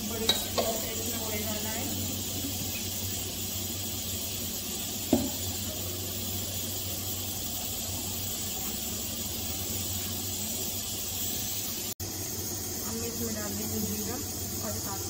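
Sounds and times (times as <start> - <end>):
gas burner hissing: 0.0 - 15.0.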